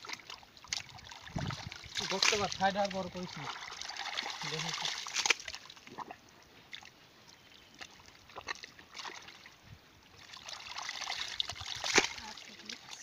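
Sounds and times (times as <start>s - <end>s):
hands squelching through wet mud: 0.0s - 6.9s, 7.8s - 9.5s, 10.2s - 13.0s
small splashes and sucking sounds: 0.0s - 13.0s.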